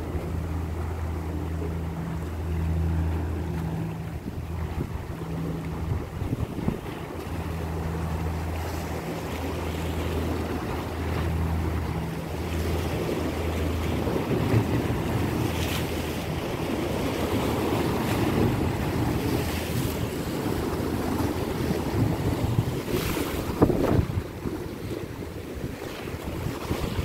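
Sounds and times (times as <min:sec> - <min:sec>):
boat engine hum: 0:00.0 - 0:27.0
waves: 0:00.0 - 0:27.0
wind buffeting microphone: 0:00.0 - 0:27.0.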